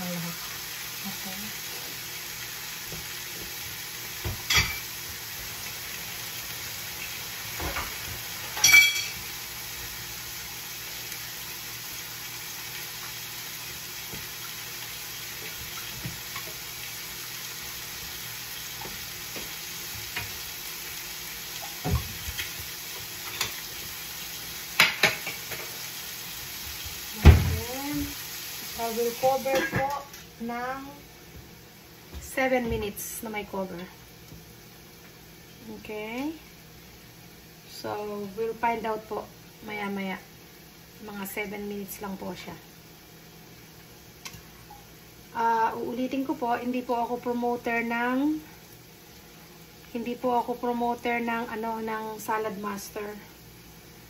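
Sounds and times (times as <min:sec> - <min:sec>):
meat sizzling in a pan: 0:00.0 - 0:54.0.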